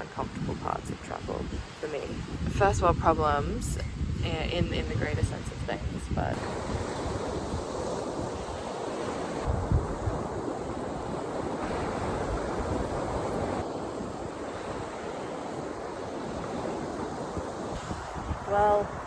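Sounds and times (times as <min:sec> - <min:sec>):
ocean waves washing on beach: 0:00.0 - 0:19.0
wind buffeting microphone: 0:00.0 - 0:19.0.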